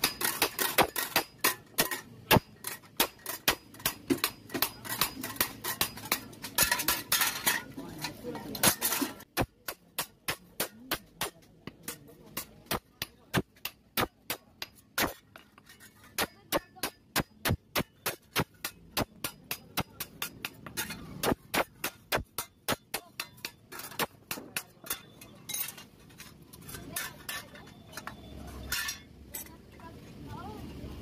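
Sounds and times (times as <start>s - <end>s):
hammer striking metal on anvil: 0.0s - 7.7s, 8.4s - 26.3s.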